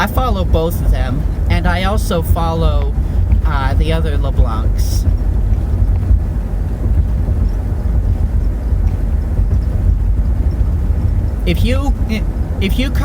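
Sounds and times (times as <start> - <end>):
car interior road drone: 0.0 - 13.0
wind noise: 0.0 - 13.0.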